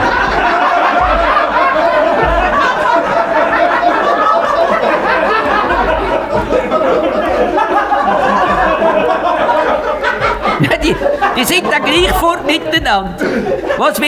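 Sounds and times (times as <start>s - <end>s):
audience laughing: 0.0s - 14.0s.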